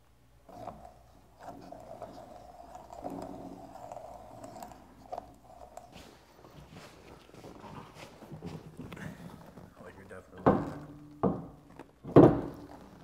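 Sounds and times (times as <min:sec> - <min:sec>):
faint scraping of screwing: 0:00.4 - 0:13.0.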